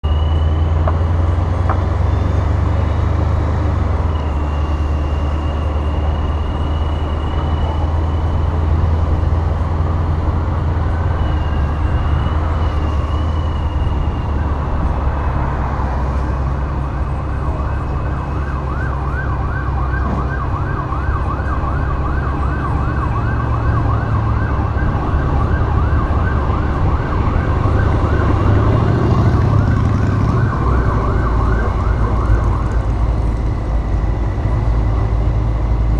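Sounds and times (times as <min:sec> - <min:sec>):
car engine rumbling: 0:00.0 - 0:35.9
siren wailing: 0:00.0 - 0:35.9.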